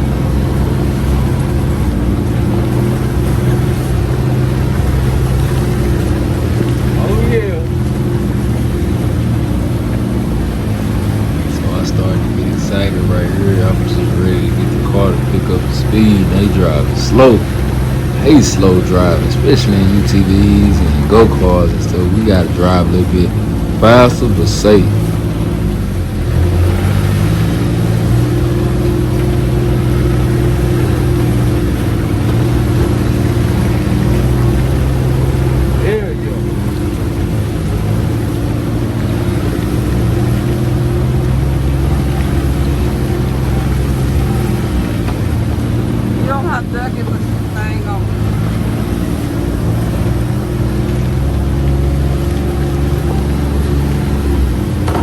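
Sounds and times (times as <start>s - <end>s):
utv engine running: 0.0s - 55.0s.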